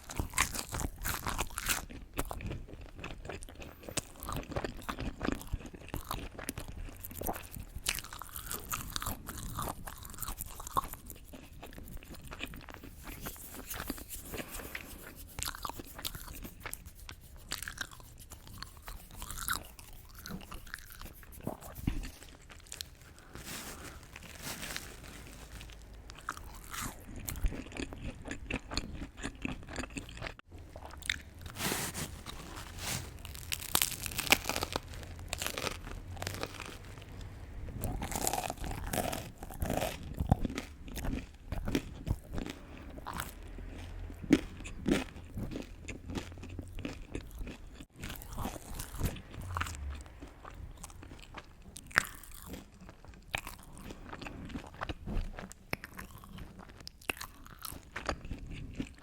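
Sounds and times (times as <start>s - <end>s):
crunchy bites and chewing: 0.0s - 59.0s.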